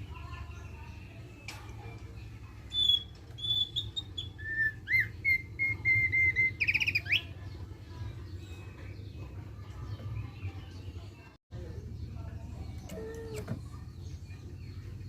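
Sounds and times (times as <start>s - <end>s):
bird singing chattering song: 0.0s - 15.0s.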